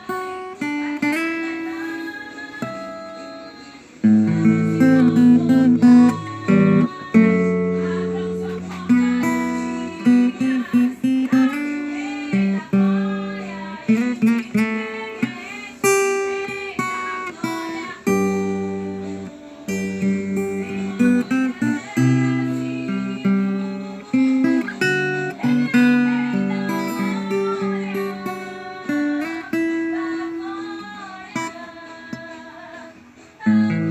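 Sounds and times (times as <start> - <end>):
acoustic guitar playing slowly: 0.0 - 33.9.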